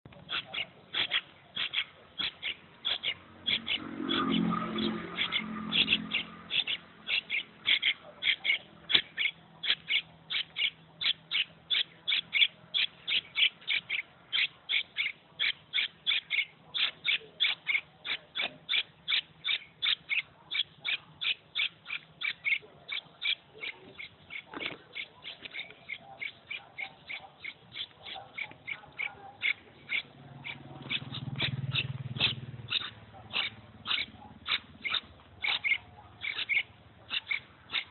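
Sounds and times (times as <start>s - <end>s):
bird chick calling: 0.1s - 37.9s.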